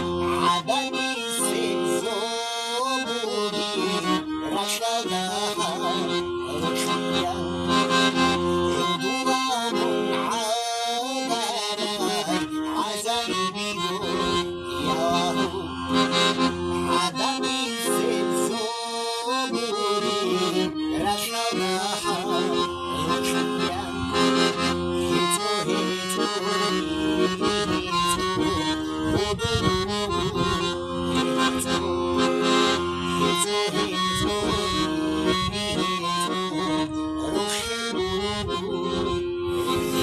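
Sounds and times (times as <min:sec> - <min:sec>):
accordion playing a melody: 0:00.0 - 0:40.0.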